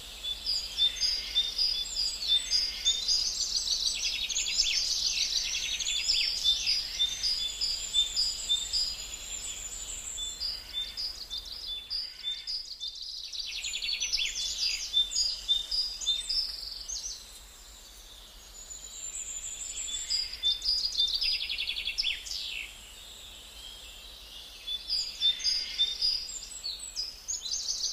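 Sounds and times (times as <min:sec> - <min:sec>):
songbirds singing and chirping: 0:00.0 - 0:27.9.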